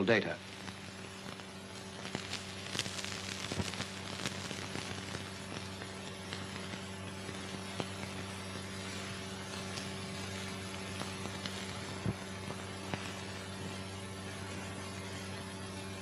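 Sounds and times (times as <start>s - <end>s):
steady hiss: 0.0s - 16.0s
crackles and clicks: 0.3s - 16.0s.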